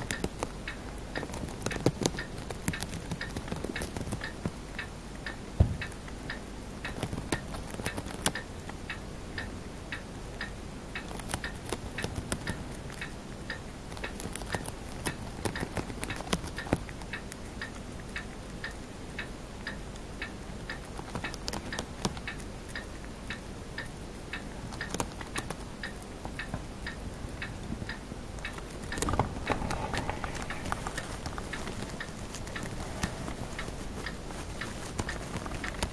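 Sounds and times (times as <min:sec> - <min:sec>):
hamster chewing leaf: 0:00.0 - 0:35.9.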